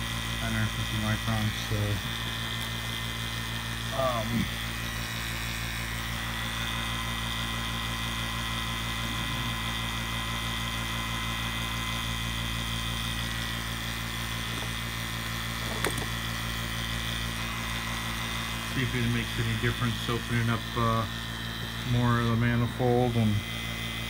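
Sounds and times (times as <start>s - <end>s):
electric vacuum pump running: 0.0s - 24.0s.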